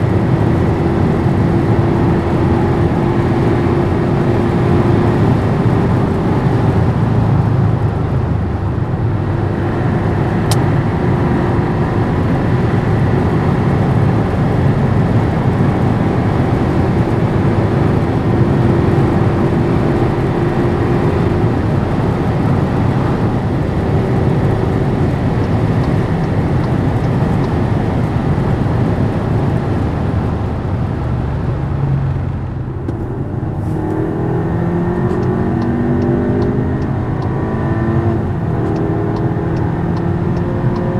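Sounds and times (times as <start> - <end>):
car engine drone: 0.0 - 40.9.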